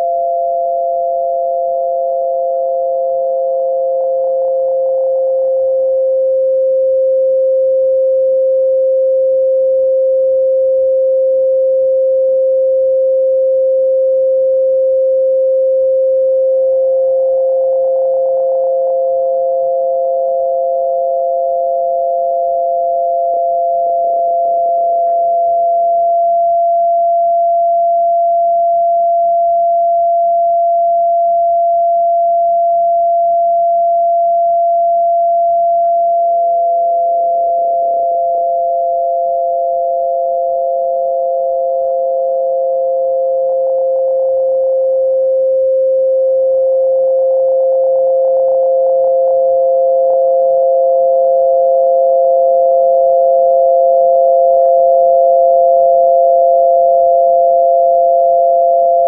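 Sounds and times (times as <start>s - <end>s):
low electronic tone: 0.0s - 59.0s.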